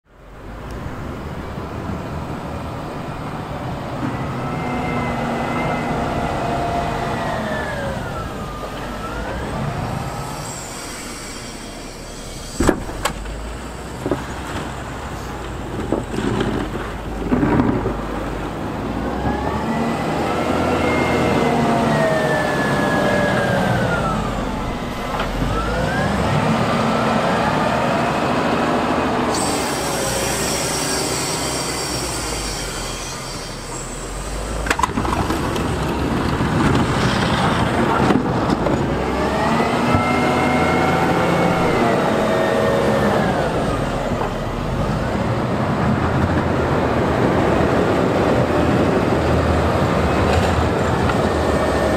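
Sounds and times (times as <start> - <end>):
loader engine whine: 0.0 - 51.9.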